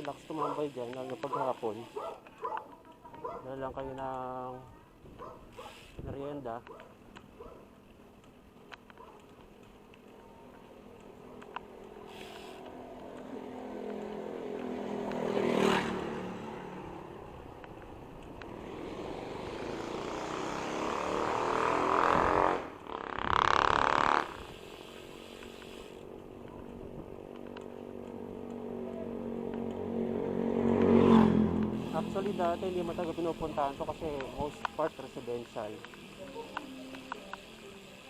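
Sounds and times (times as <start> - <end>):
motor vehicles passing by: 6.5 - 38.0.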